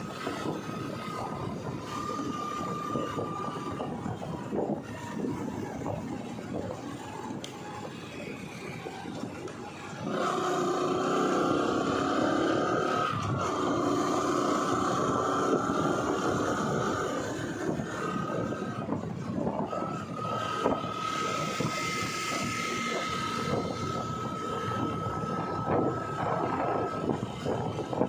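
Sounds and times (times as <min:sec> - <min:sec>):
motorbike engine and road noise: 0:00.0 - 0:28.0
steady whine: 0:00.0 - 0:28.0.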